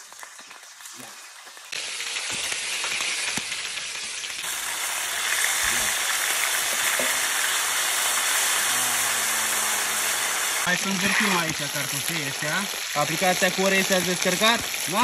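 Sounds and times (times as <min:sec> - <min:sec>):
chicken wings sizzling in lard: 0:00.0 - 0:15.0.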